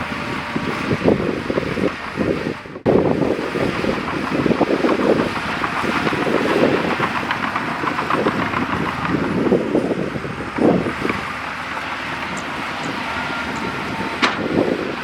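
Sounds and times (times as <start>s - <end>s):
bulldozer rattling: 0.0s - 15.0s
wind noise on microphone: 0.0s - 15.0s.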